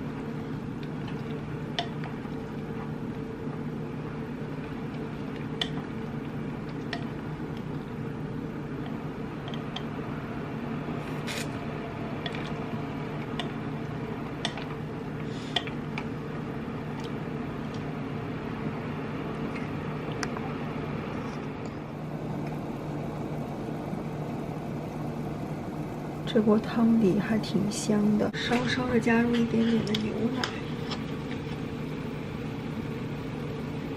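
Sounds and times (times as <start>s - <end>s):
broth simmering with small pops: 0.0s - 11.0s, 11.6s - 33.9s
low mechanical hum: 0.0s - 33.9s.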